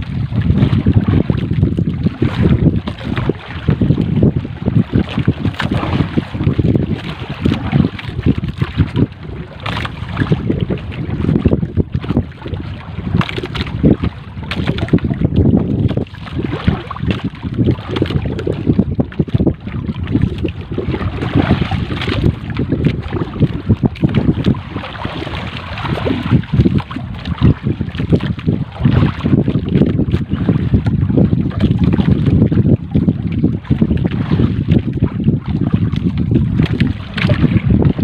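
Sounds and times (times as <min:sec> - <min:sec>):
water splashing against hull: 0:00.0 - 0:38.0
wind buffeting microphone: 0:00.0 - 0:38.0.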